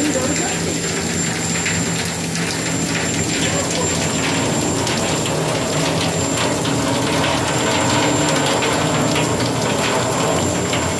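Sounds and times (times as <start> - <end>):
water dripping into steel drums: 0.0 - 10.9.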